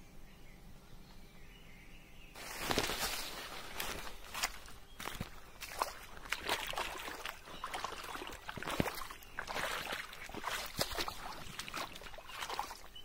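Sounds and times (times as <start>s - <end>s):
footsteps wading through stream: 2.4s - 13.0s
water splashing and sloshing: 2.4s - 13.0s.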